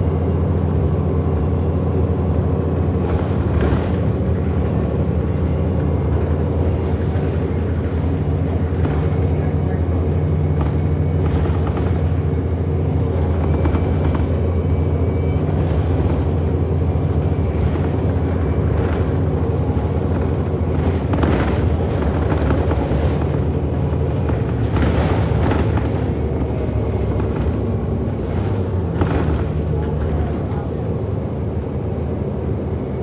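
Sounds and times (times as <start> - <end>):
bus motor humming: 0.0 - 33.0
road noise: 0.0 - 33.0.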